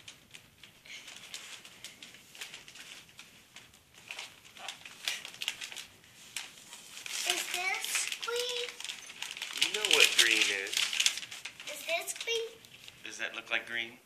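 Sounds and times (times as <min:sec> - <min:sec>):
wrapping paper rustling: 0:00.0 - 0:13.9.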